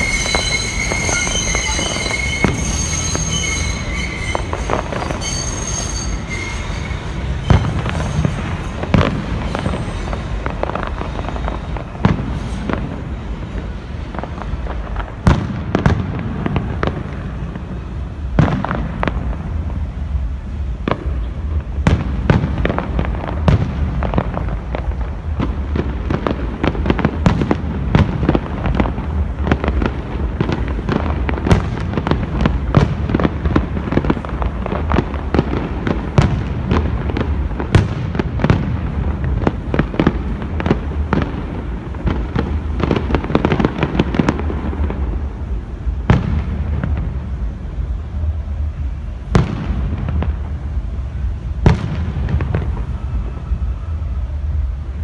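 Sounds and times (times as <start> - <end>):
steady low rumble: 7.0 - 55.0.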